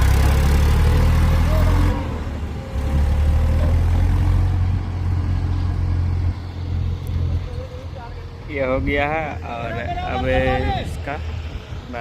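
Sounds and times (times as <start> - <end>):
heavy vehicle engine under load: 0.0 - 12.0.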